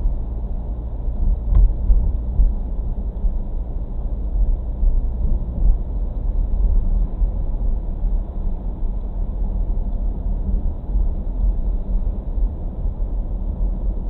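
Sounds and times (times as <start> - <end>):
car tyres and engine rumbling: 0.0 - 14.0.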